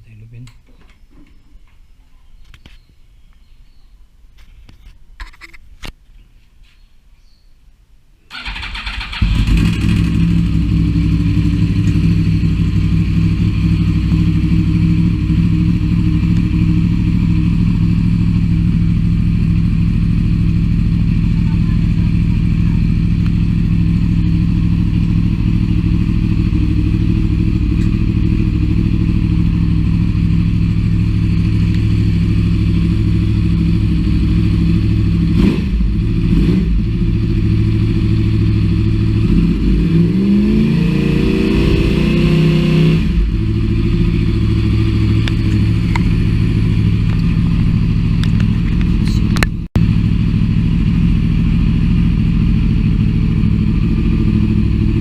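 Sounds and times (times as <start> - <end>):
motorcycle engine idling and revving: 8.3 - 55.0.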